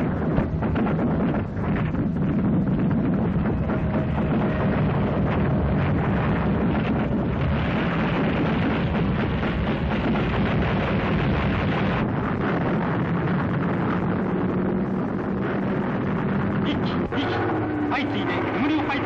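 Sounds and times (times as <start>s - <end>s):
anti-aircraft gunfire: 0.0s - 19.0s
explosions: 0.0s - 19.0s.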